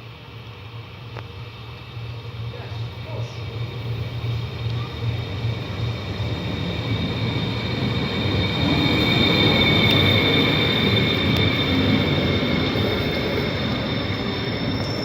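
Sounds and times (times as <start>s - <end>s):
train rumbling past: 0.0s - 15.0s
wheels squealing on rails: 2.8s - 15.0s.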